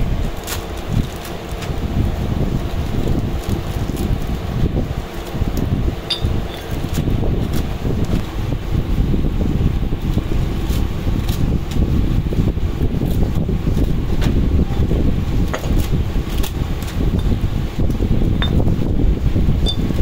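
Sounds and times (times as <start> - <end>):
fan running: 0.0 - 20.0.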